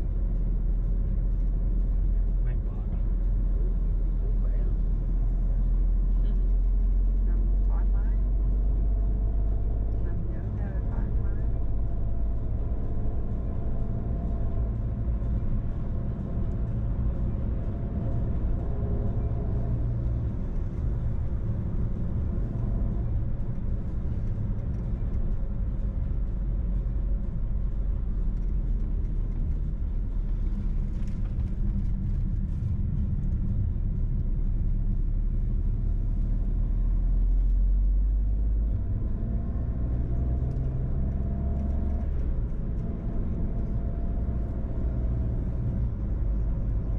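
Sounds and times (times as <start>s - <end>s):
car engine and tyre noise: 0.0s - 46.9s.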